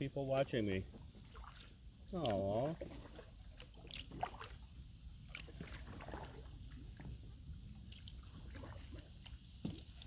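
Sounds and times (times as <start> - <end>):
kayak paddle splashing: 0.2 - 10.0.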